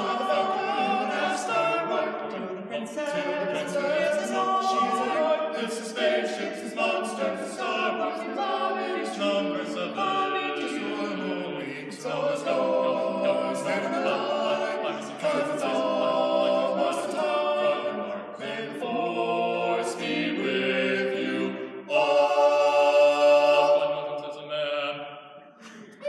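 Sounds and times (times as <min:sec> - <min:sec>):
male a cappella group singing: 0:00.0 - 0:26.0.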